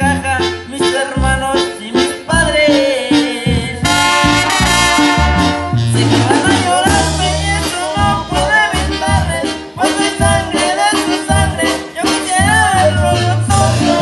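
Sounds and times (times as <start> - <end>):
low bass line: 0.0 - 10.6, 12.3 - 14.0
brass band playing: 2.5 - 14.0.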